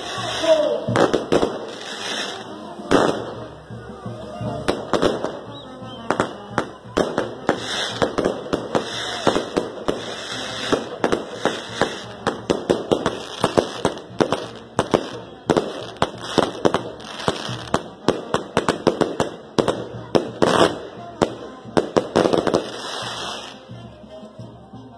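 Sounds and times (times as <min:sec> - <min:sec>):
fireworks bangs and crackling pops: 0:00.0 - 0:23.8.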